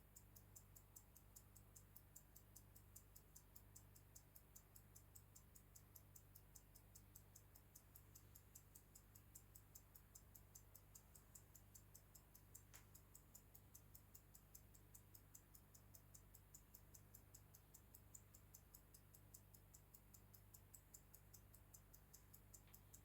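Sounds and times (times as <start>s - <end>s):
pocket watch ticking: 0.0s - 23.0s.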